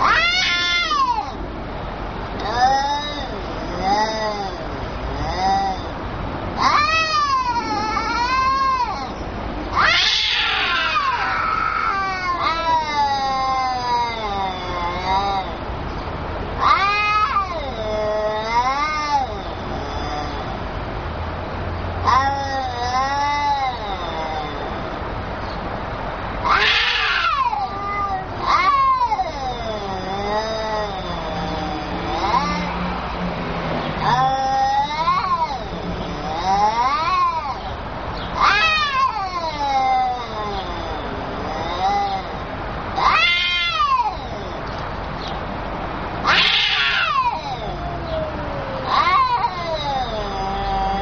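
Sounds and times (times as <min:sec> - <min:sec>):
cats yowling: 0:00.0 - 0:51.0.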